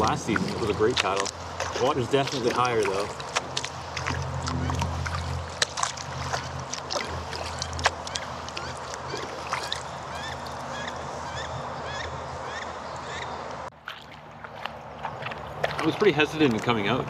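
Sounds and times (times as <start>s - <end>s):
kayak paddle splashes: 0.0s - 12.0s, 13.0s - 17.0s
birds calling: 0.0s - 13.7s.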